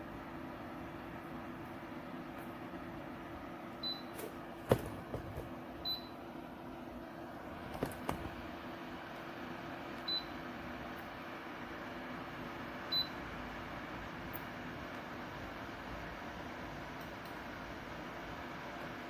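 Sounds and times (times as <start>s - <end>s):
fan heater humming: 0.0s - 19.0s.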